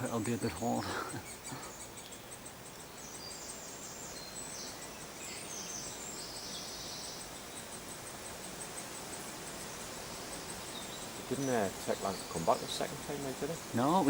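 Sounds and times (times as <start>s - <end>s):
nestlings ticking chatter: 0.0s - 5.2s, 6.6s - 14.0s.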